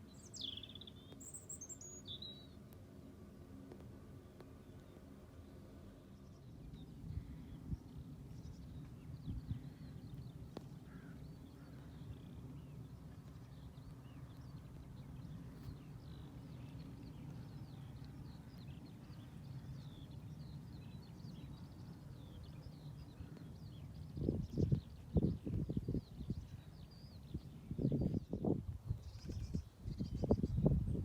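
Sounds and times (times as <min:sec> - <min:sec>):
small birds chirping: 0:00.0 - 0:02.6, 0:04.2 - 0:31.0
steady low rumble: 0:02.4 - 0:31.0.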